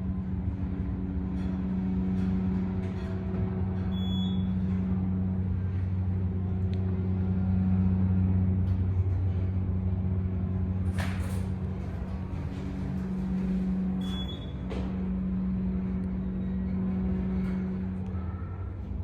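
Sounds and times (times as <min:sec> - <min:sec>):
elevator hydraulic pump hum: 0:00.0 - 0:19.0.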